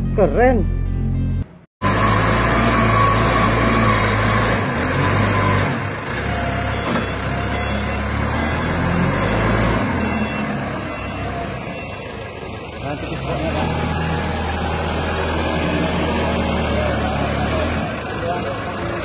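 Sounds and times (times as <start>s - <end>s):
diesel engine under load: 1.8s - 19.0s.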